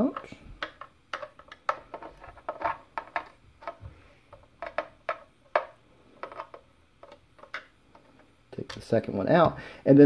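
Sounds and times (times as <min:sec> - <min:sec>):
plastic part handling: 0:00.1 - 0:08.9.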